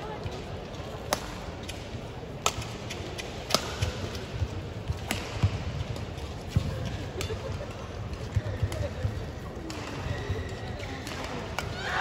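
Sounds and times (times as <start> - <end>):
rackets striking shuttlecock: 1.0 - 11.8.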